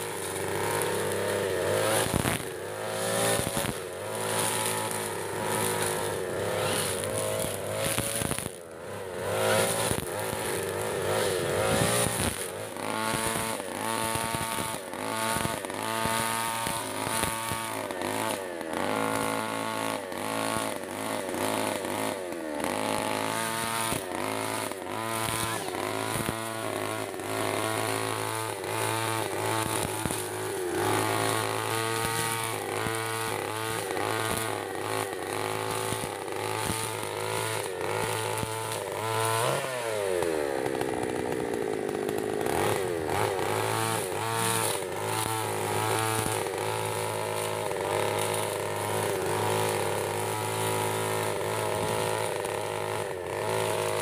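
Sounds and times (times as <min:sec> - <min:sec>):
brush cutter engine revving: 0:00.0 - 0:54.0.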